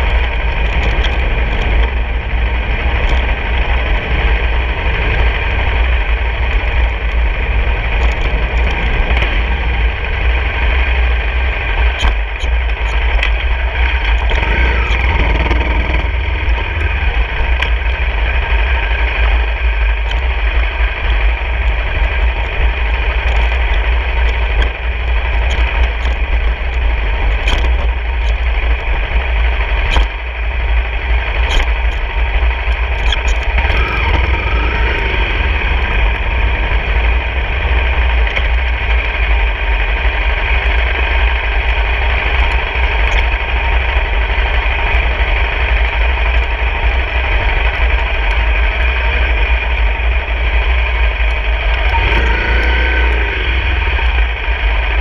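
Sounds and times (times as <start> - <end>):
dirt bike engine running: 0.0 - 55.0
wind rumble on microphone: 0.0 - 55.0.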